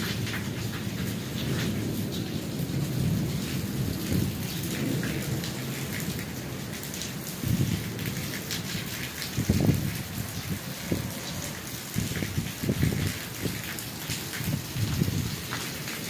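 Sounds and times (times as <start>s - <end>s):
heavy rain pouring: 0.0s - 16.0s
raindrops pattering on surfaces: 0.0s - 16.0s.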